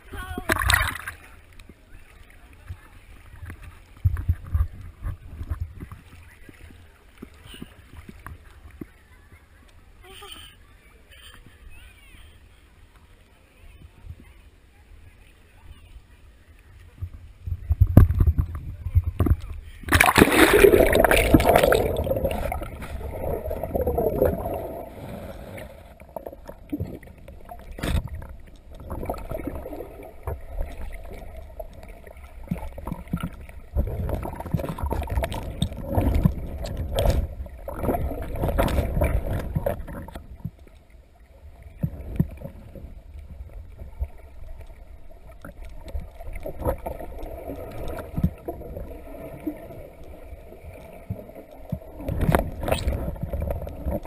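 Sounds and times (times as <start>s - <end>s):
muffled underwater rumbling: 0.0s - 10.0s, 13.7s - 54.0s.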